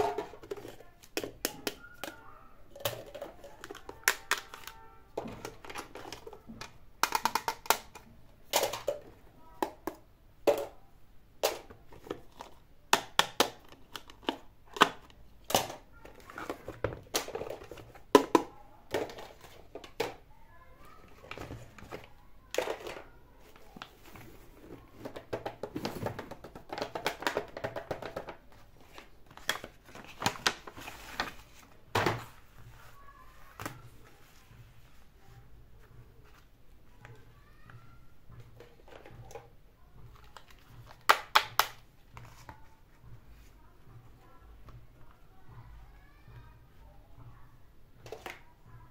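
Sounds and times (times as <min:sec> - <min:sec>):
plastic toys clicking and knocking: 0:00.0 - 0:10.8, 0:11.4 - 0:48.9.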